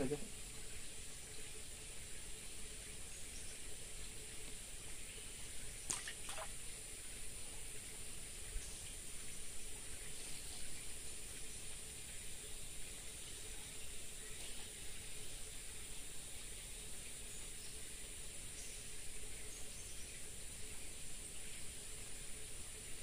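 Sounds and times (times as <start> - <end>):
continuous high hiss: 0.0 - 23.0.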